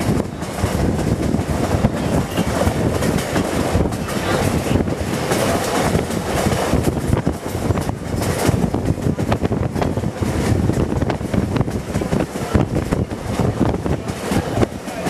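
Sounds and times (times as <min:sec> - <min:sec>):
train rolling rumble: 0:00.0 - 0:15.0
wheels knocking on track: 0:00.0 - 0:15.0
wind buffeting microphone: 0:00.0 - 0:15.0.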